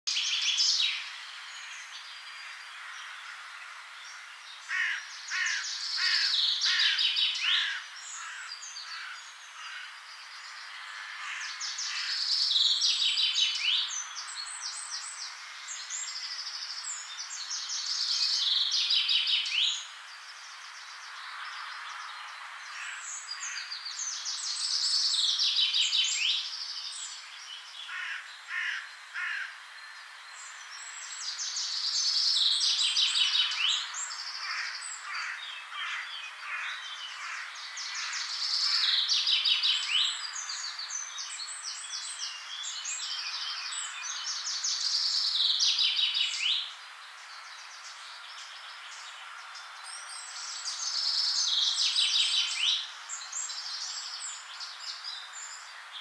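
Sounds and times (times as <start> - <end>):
songbirds trilling and chirping: 0.0 - 56.0
faint background hiss: 0.1 - 56.0.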